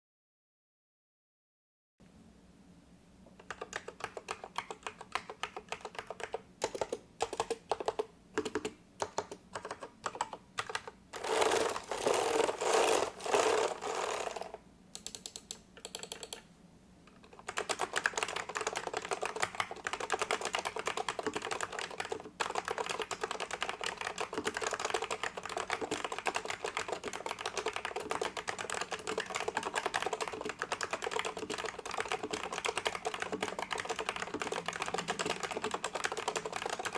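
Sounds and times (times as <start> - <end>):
keyboard typing: 3.4 - 16.5, 17.2 - 36.9.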